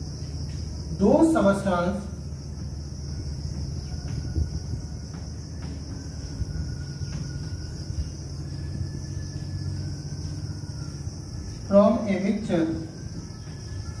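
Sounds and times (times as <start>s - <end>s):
high-pitched hiss: 0.0s - 14.0s
low hum: 0.0s - 14.0s.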